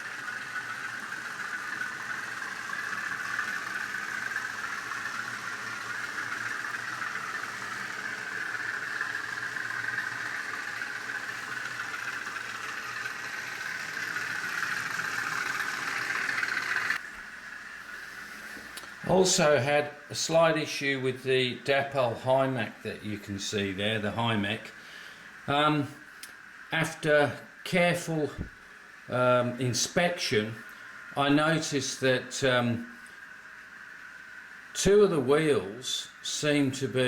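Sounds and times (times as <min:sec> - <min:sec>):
model train diesel engine drone: 0:00.0 - 0:37.0.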